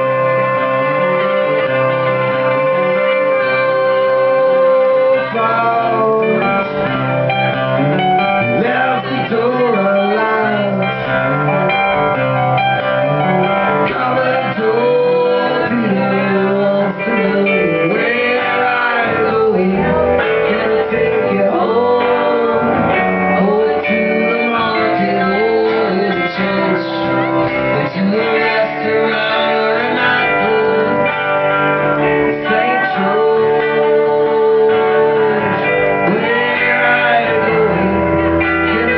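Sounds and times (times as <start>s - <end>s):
electric guitar bending notes: 0.0s - 38.9s
rock band playing live: 0.0s - 38.9s.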